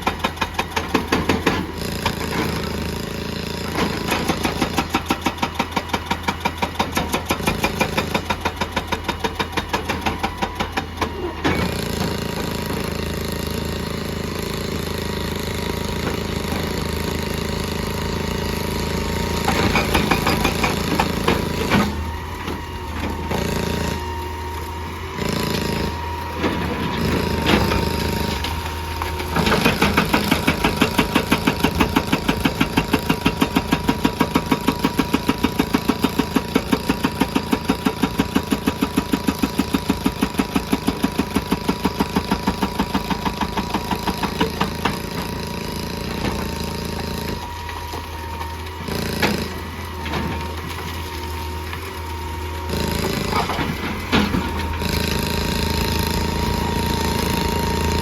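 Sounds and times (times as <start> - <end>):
diesel engine running: 0.0 - 58.0
hydraulic rock breaker hammering: 0.0 - 58.0.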